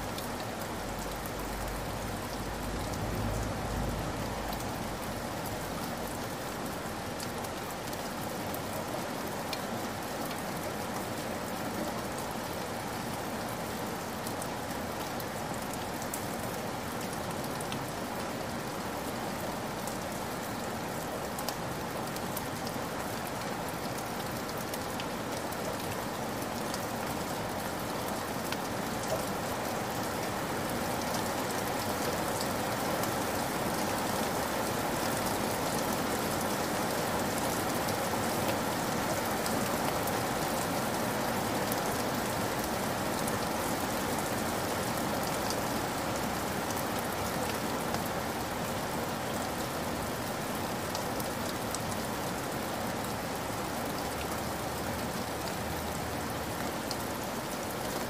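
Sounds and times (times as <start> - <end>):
heavy rain on wet ground: 0.0 - 58.0.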